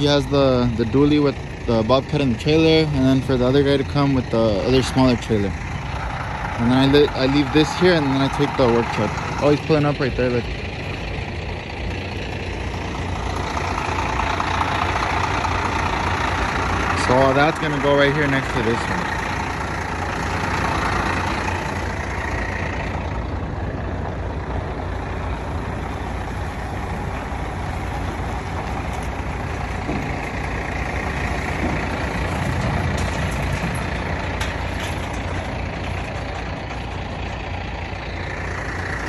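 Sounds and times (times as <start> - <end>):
pickup truck engine running: 0.0 - 39.0.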